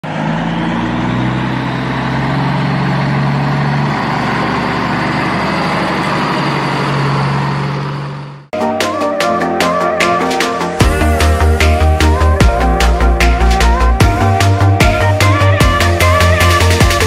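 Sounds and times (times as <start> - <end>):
heavy truck engine running: 0.0 - 8.6, 9.2 - 17.0.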